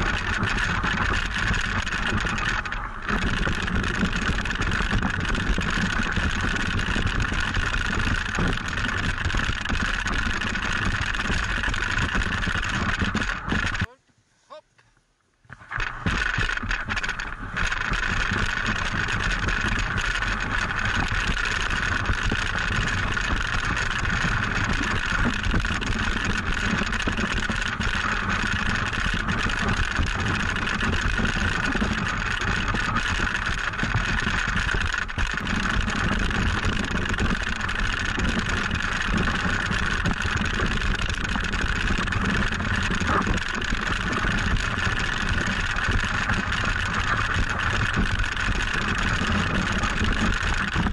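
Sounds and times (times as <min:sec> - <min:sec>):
sled runners scraping on snow: 0:00.0 - 0:14.6, 0:15.5 - 0:50.9.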